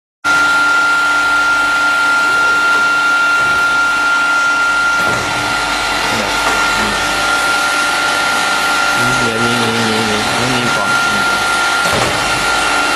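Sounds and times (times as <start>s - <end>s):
cutting machine whine: 0.3s - 12.9s.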